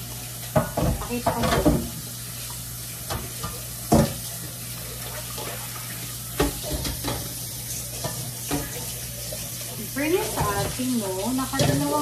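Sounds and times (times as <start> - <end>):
rushing kitchen noise: 0.0 - 12.0.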